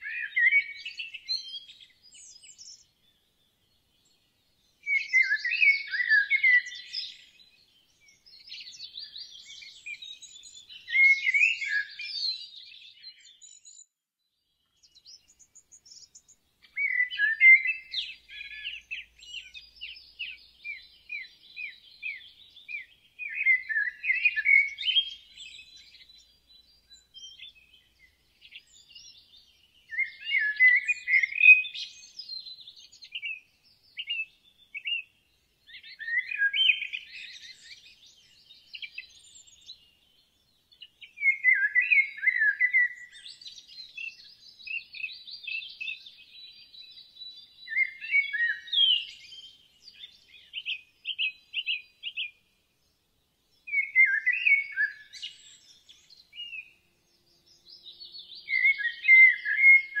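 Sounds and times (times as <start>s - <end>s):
birds chirping: 0.0s - 60.0s.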